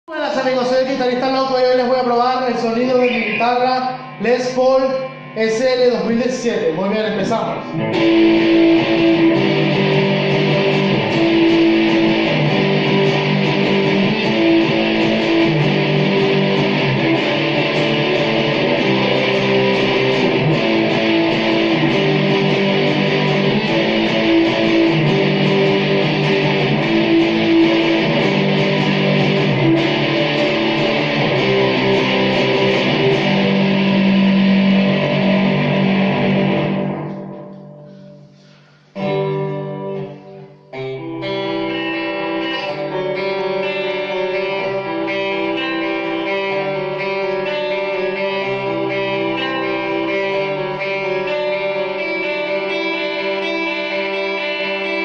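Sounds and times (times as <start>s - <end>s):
electric guitar playing: 0.0s - 55.0s.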